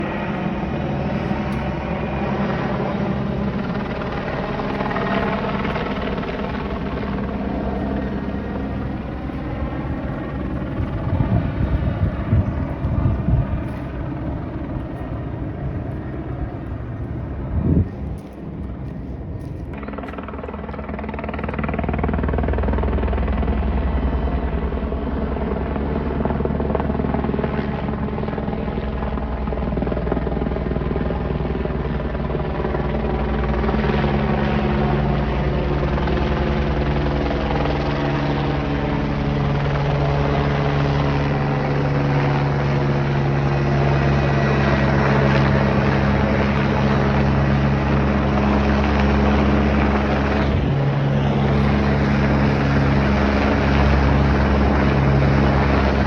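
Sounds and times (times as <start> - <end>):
helicopter engine whine: 0.0 - 56.0
helicopter rotor beat: 0.0 - 56.0.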